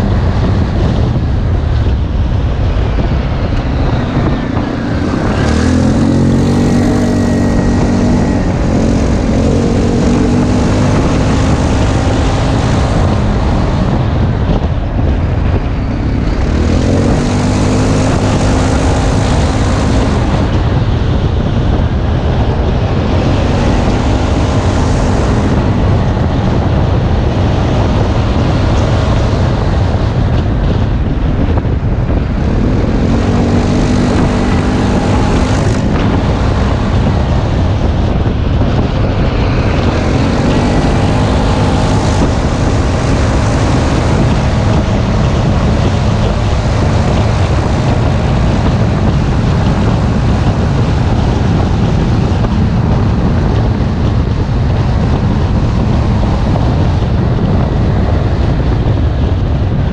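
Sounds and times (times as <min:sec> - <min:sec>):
atv engine revving: 0:00.0 - 0:59.9
wind and tyre noise: 0:00.0 - 0:59.9.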